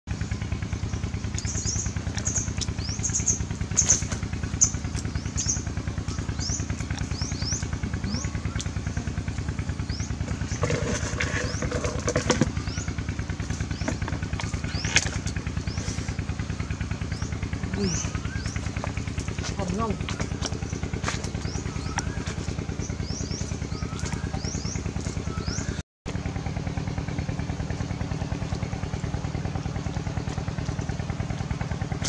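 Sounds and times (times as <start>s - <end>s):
small engine running: 0.1s - 32.0s.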